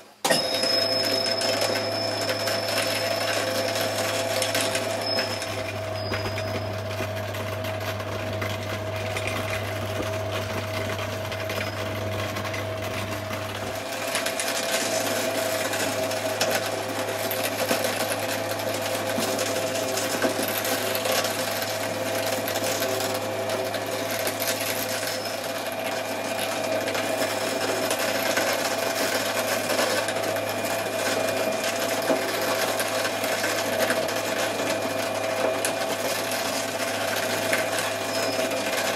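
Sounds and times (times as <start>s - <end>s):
shredder whirring: 0.2s - 38.9s.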